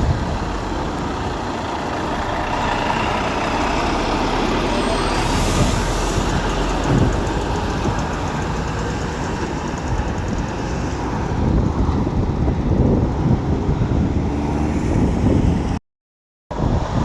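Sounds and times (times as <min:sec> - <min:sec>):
road traffic with heavy lorries: 0:00.0 - 0:15.8, 0:16.5 - 0:17.0.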